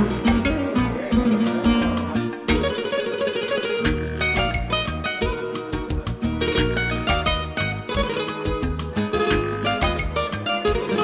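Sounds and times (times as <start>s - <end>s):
pulsing bass line and beat: 0.0s - 2.8s, 3.9s - 10.8s
plucked-string melody: 0.0s - 11.0s.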